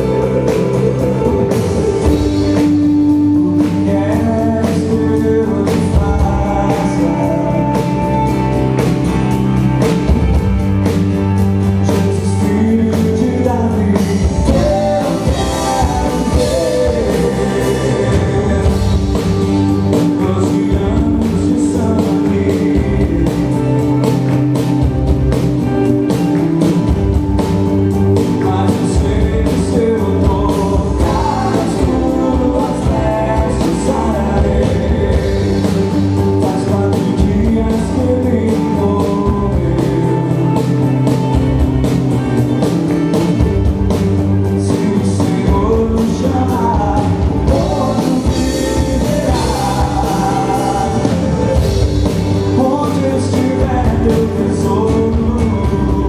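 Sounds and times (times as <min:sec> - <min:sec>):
man singing: 0:00.0 - 0:10.4, 0:11.1 - 0:41.9, 0:44.3 - 0:56.0
acoustic guitar: 0:00.0 - 0:56.0
drum kit: 0:00.0 - 0:56.0
electric bass: 0:00.0 - 0:56.0.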